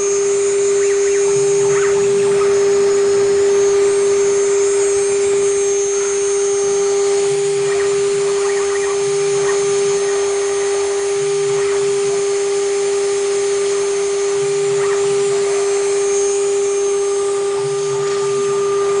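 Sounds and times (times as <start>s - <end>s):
low hum: 0.0s - 19.0s
router spindle whining: 0.0s - 19.0s.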